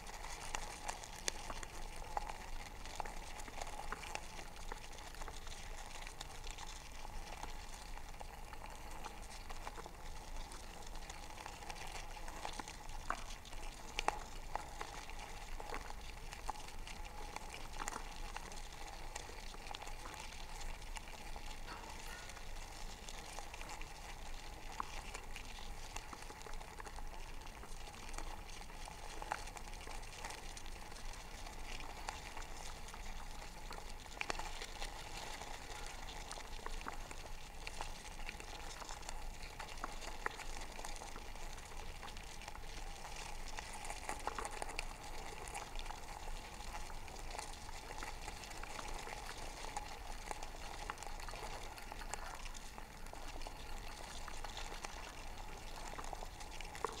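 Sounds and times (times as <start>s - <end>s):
crackle of small ticks: 0.0s - 57.0s.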